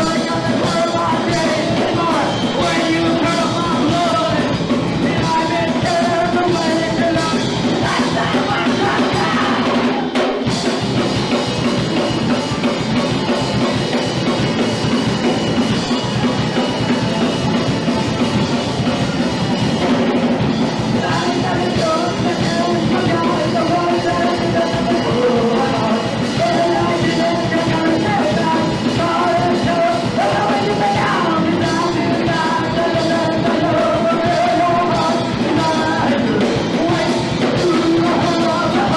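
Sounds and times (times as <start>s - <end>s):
punk rock band playing live: 0.0s - 38.9s.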